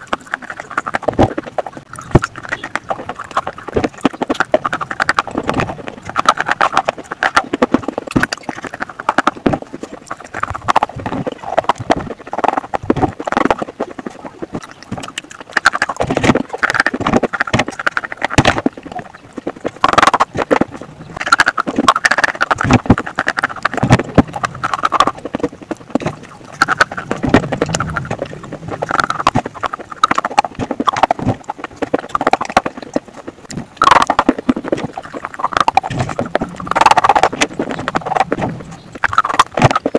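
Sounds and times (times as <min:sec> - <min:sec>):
slate pencils being chewed: 0:00.0 - 0:39.9.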